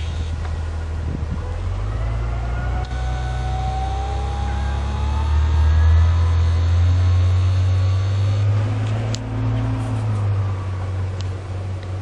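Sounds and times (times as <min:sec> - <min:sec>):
faint rising whine: 0:00.0 - 0:11.5
vehicle engine and road noise: 0:00.0 - 0:12.0.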